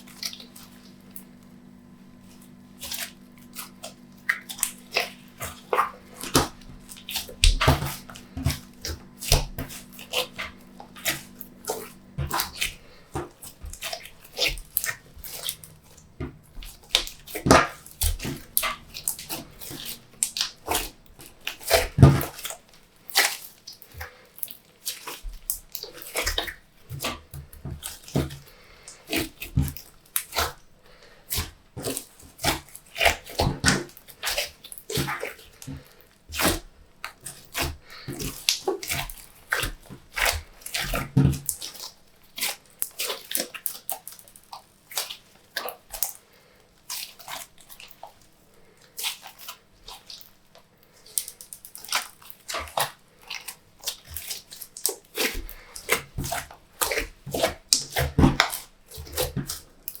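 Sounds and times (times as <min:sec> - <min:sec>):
slime squished by hand: 0:00.0 - 0:30.7, 0:31.3 - 0:46.2, 0:46.8 - 1:00.0.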